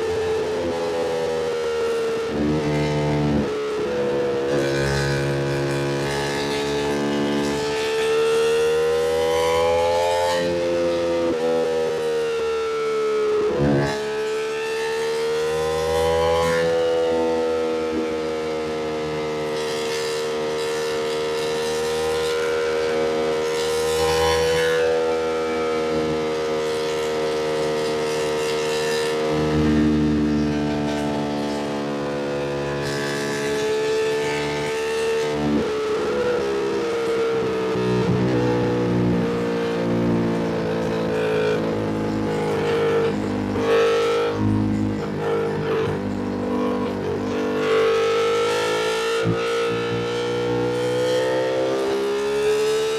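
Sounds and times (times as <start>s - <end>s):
motorcycle engine cruising: 0.0s - 52.9s.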